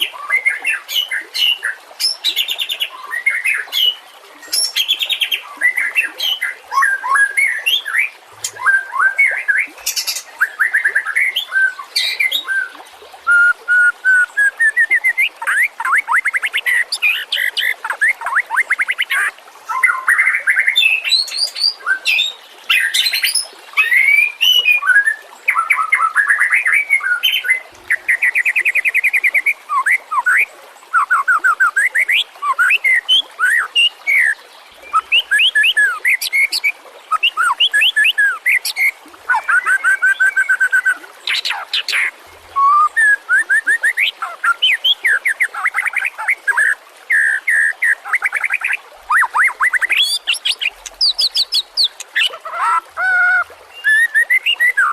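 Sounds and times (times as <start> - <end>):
bird singing trills and whistles: 0.0 - 54.9.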